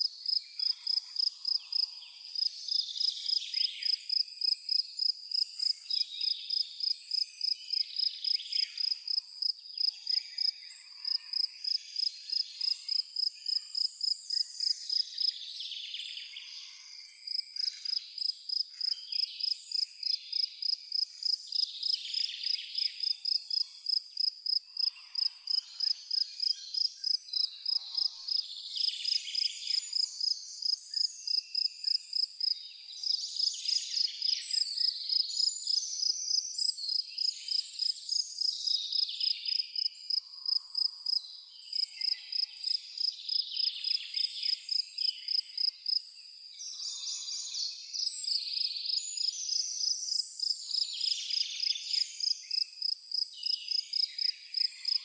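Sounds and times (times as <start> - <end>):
cricket chirping: 0.0 - 15.3, 16.6 - 55.0
birds singing and chirping: 0.0 - 55.0.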